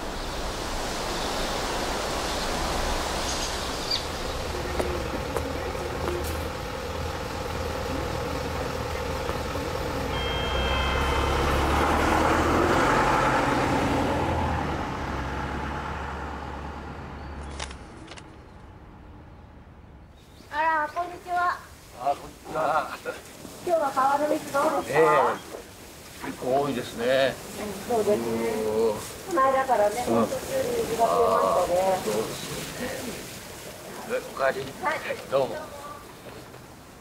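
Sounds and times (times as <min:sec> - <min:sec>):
vehicle passing: 0:00.0 - 0:22.9, 0:23.5 - 0:37.0
street traffic: 0:00.0 - 0:37.0.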